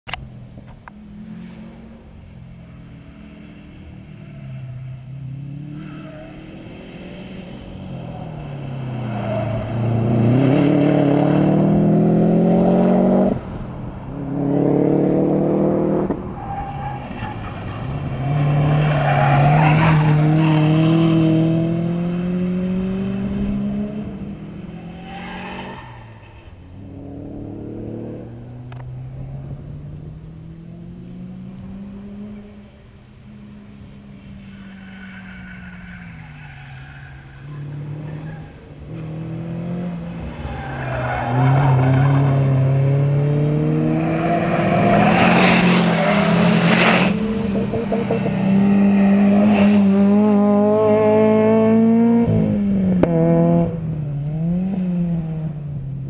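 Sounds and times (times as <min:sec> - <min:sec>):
car engine revving: 0:01.1 - 0:16.5, 0:17.1 - 0:32.8, 0:37.3 - 0:55.9.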